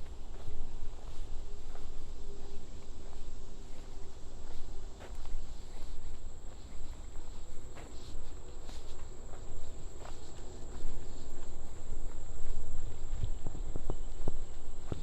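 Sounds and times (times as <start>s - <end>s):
footsteps on trail: 0.0s - 15.0s.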